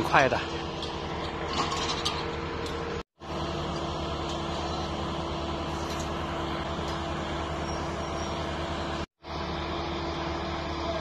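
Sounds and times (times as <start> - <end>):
heavy machine engine humming: 0.0 - 11.0.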